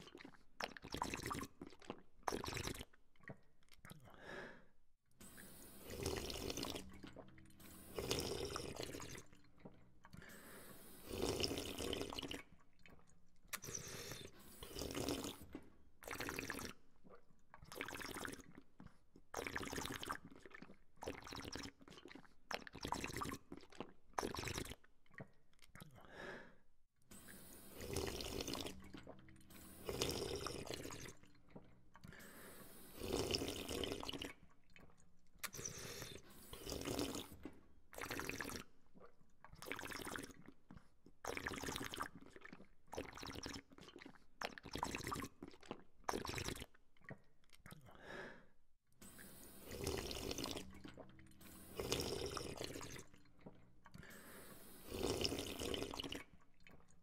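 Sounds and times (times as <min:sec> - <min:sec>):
person slurping water: 0:00.0 - 0:57.0.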